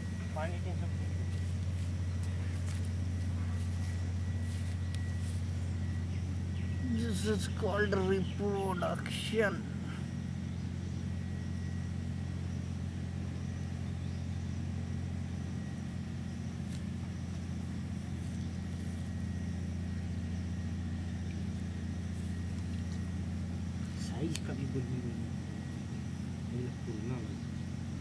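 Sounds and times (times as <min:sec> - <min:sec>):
low motor drone: 0:00.0 - 0:28.0.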